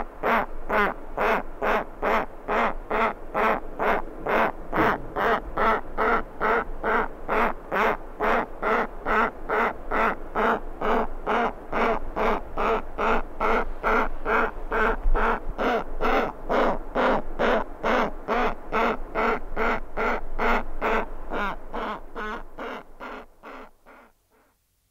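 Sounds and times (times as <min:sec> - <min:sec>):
bird chick begging calls: 0:00.2 - 0:24.5.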